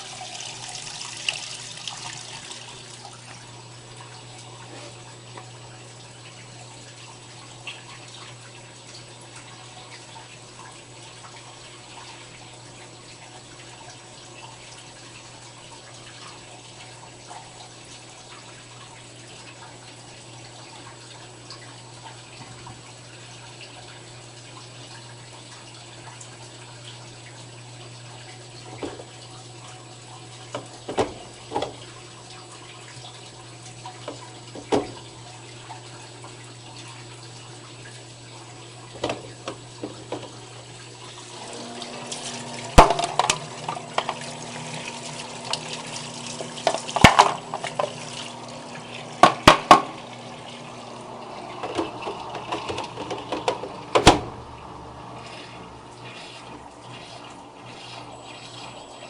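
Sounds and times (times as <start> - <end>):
washing machine hum: 0.0 - 59.0
water splashing and sloshing: 0.0 - 59.0.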